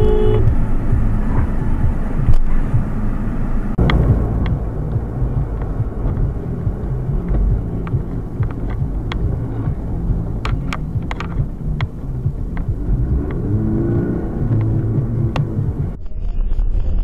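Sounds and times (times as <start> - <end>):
car road and engine rumble: 0.0 - 16.1.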